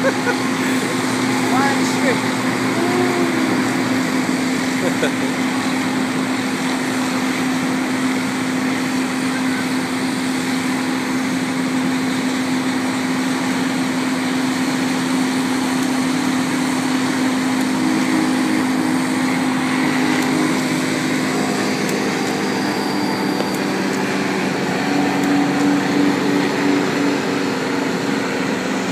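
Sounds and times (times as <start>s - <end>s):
diesel engines droning: 0.0s - 28.9s.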